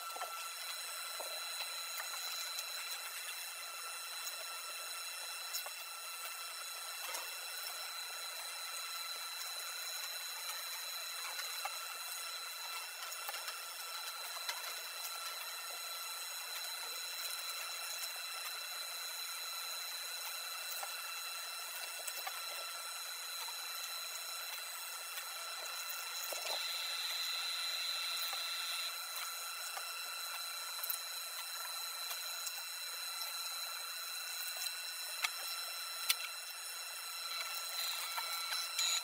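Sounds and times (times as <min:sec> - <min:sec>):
inkjet printer whining: 0:00.0 - 0:39.0.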